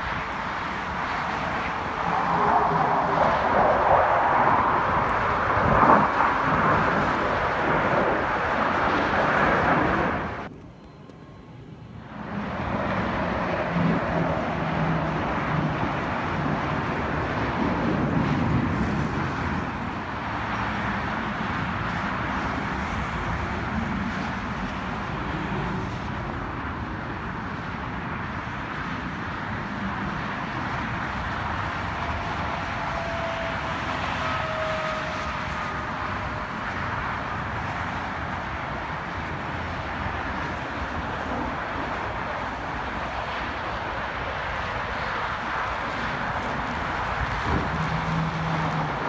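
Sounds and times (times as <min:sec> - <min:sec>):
distant jet engines roaring: 0:00.0 - 0:49.0
faint jet whine: 0:00.0 - 0:49.0.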